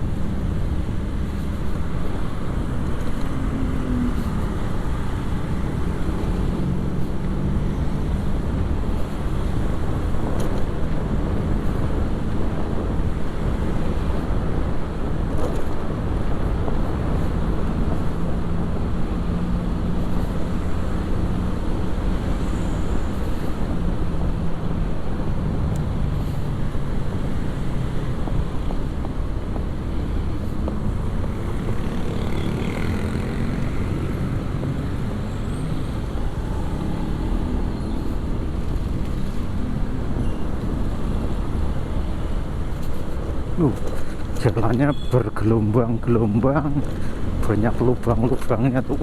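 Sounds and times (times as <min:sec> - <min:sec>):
road and traffic noise: 0:00.0 - 0:49.0.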